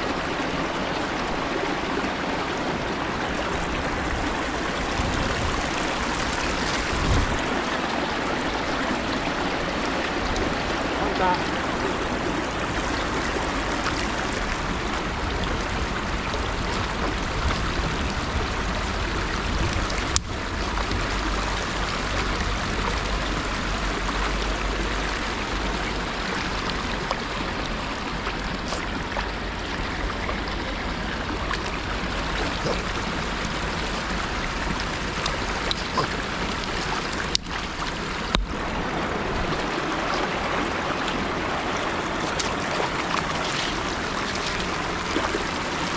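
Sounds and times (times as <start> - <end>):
river water flowing: 0.0 - 45.9.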